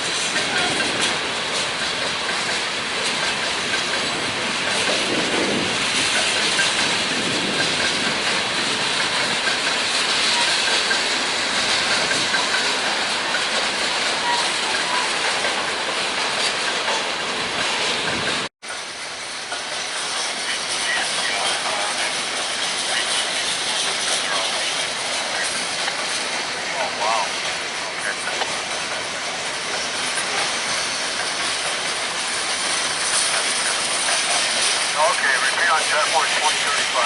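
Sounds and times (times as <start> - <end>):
freight train cars rolling: 0.0 - 37.0.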